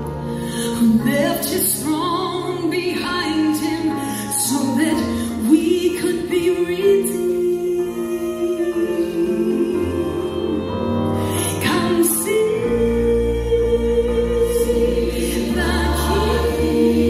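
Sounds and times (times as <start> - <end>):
woman singing into a microphone: 0.5 - 17.0.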